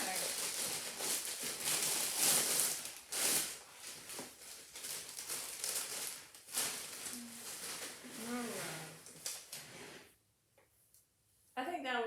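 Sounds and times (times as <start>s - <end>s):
plastic bag rustling and crinkling: 0.0s - 10.1s.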